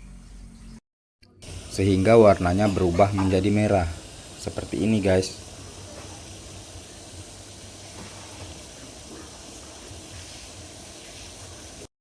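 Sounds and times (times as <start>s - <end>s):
water boiling with a hiss: 1.4s - 11.9s.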